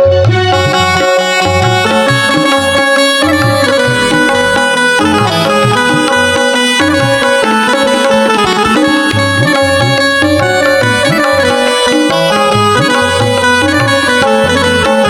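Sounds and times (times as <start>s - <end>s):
reedy melody instrument: 0.0s - 15.0s
rhythmic bass line: 0.0s - 15.0s.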